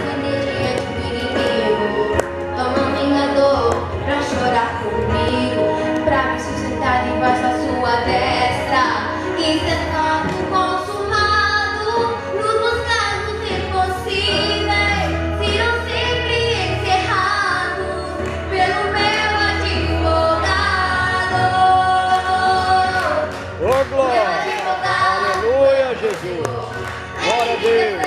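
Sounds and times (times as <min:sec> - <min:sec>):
two girls singing: 0:00.0 - 0:23.6, 0:24.2 - 0:25.6
backing music: 0:00.0 - 0:28.0.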